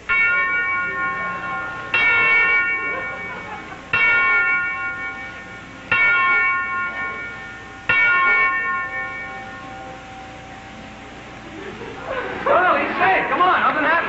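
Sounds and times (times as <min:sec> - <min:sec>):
school bell tolling: 0:00.0 - 0:14.0.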